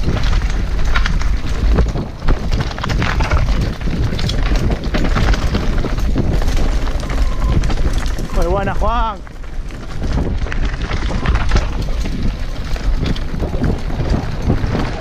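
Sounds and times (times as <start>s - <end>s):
bike clicks and rattles: 0.0s - 15.0s
tyre noise: 0.0s - 15.0s
wind buffeting microphone: 0.0s - 15.0s.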